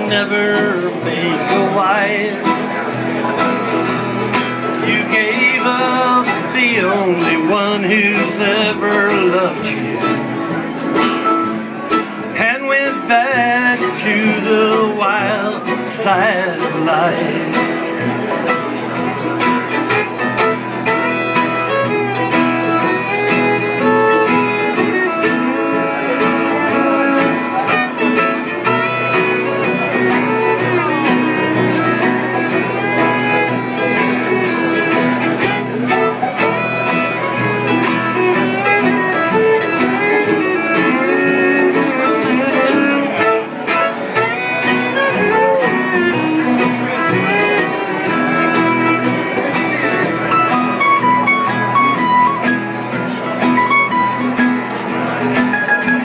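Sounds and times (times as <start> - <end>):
fiddle lead: 0.0 - 56.0
strummed acoustic guitar: 0.0 - 56.0.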